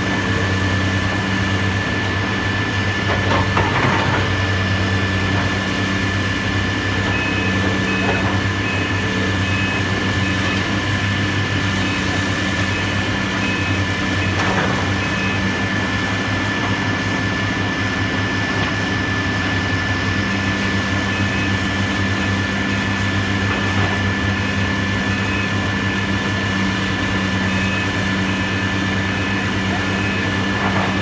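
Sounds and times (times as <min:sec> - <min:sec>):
heavy machinery engine hum: 0:00.0 - 0:31.0.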